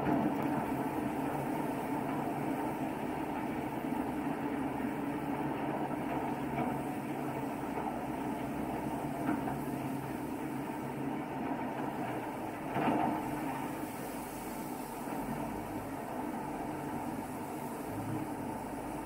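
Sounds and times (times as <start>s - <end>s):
water rushing along hull: 0.0s - 19.0s.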